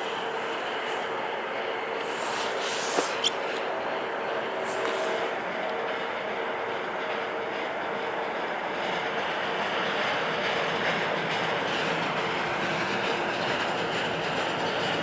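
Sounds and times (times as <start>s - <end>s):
rail vehicle rolling on track: 0.0s - 15.0s.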